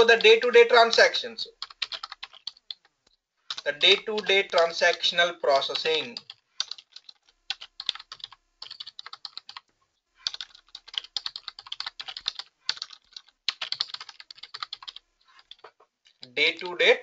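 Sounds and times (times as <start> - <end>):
typing on computer keyboard: 0.0 - 2.9, 3.5 - 16.7.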